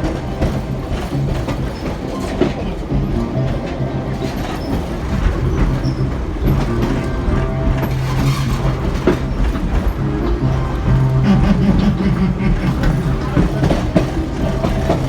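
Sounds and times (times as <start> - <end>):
train low hum: 0.0 - 15.0
train wheels clacking: 0.0 - 15.0.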